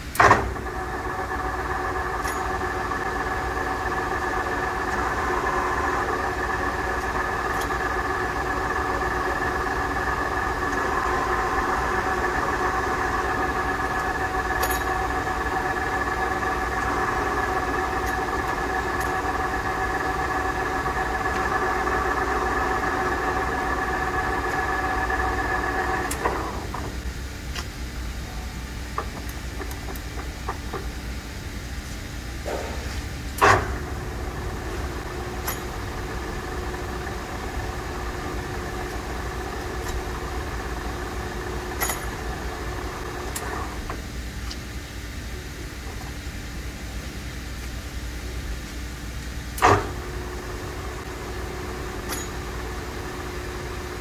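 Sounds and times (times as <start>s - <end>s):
lathe running with mechanical whine: 0.0s - 54.0s.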